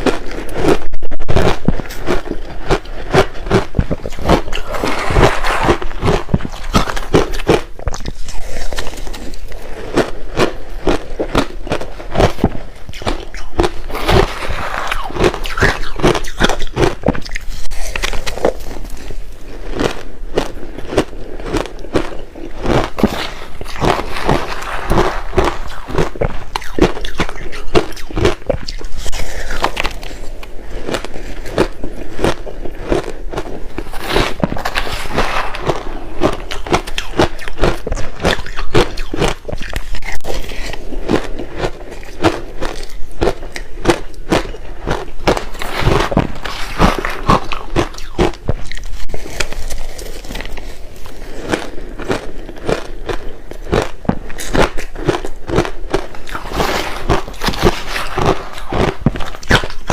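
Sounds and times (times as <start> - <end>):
teeth crunching ice: 0.0 - 59.9.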